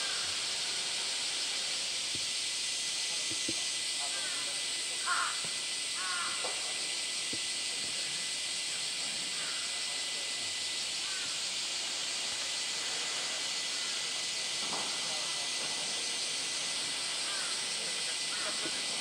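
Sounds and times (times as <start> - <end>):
cicadas chorus: 0.0 - 19.0.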